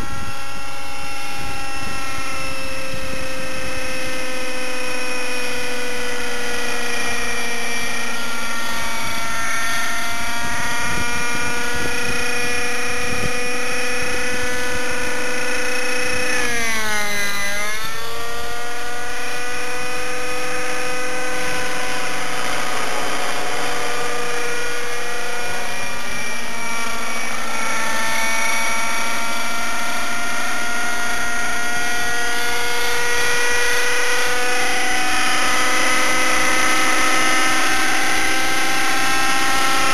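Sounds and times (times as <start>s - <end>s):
rc helicopter engine whine: 0.0s - 39.9s.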